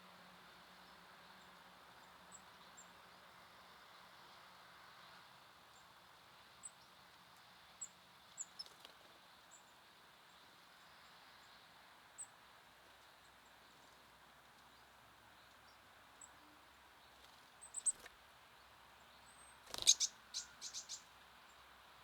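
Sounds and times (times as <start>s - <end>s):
faint outdoor hiss: 0.0s - 22.0s
songbirds chipping: 0.1s - 4.4s, 5.0s - 22.0s.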